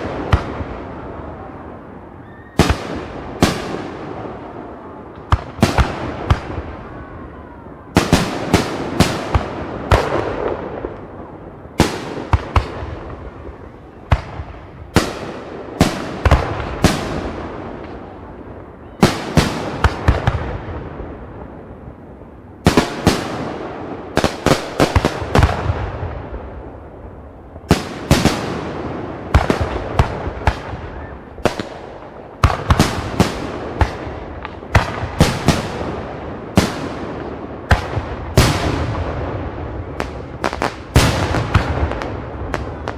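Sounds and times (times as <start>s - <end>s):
fireworks bangs: 0.0s - 42.9s
fireworks rumble: 0.0s - 42.9s.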